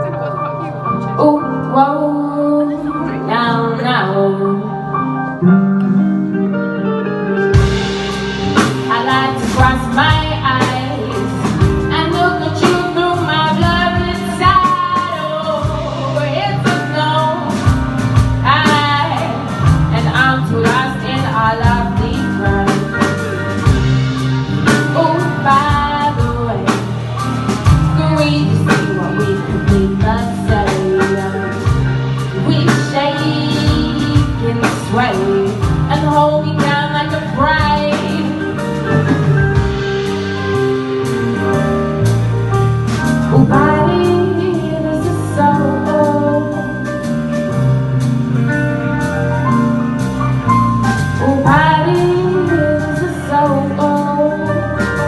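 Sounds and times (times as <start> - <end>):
drums: 0.0 - 55.0
guitar: 0.0 - 55.0.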